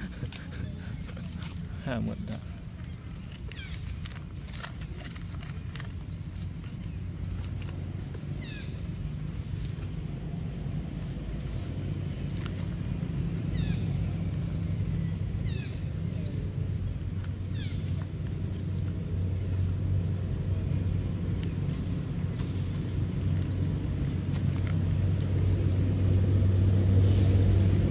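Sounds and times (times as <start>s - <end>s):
low engine rumble: 0.0s - 27.9s.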